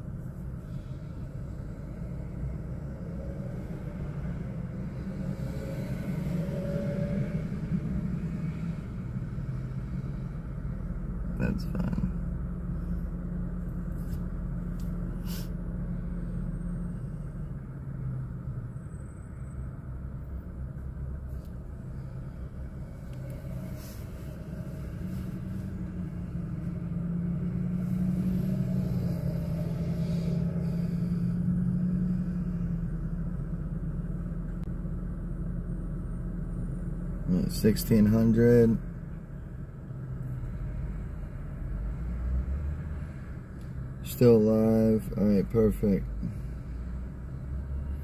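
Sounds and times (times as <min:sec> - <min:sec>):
traffic passing: 0:00.0 - 0:48.0.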